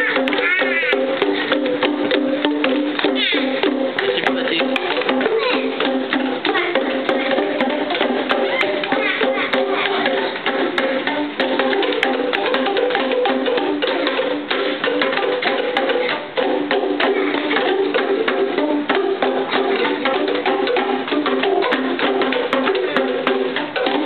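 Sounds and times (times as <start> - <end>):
boomwhackers hollow pitched notes: 0.0 - 24.0.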